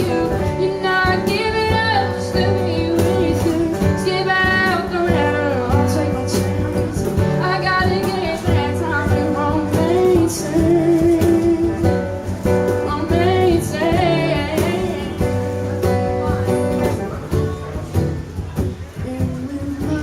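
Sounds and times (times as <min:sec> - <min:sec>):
person singing: 0:00.0 - 0:15.5, 0:19.0 - 0:20.0
strummed acoustic guitar: 0:00.0 - 0:20.0.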